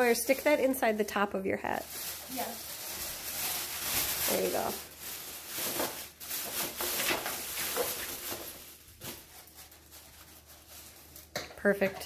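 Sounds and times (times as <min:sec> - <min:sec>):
paper rustling and crinkling: 0:00.0 - 0:11.8.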